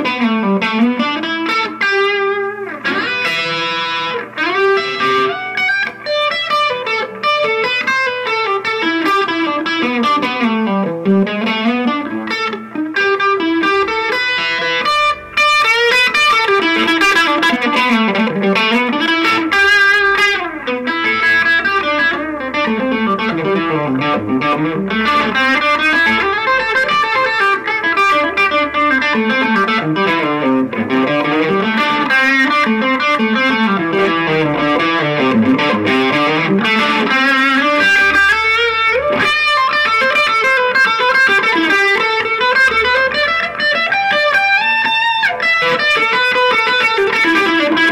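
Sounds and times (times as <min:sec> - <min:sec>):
distorted electric guitar runs: 0:00.0 - 0:47.9.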